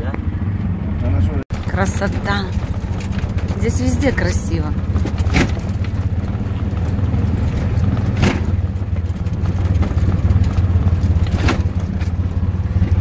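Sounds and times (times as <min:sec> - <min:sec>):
auto-rickshaw engine rumbling: 0:00.0 - 0:13.0.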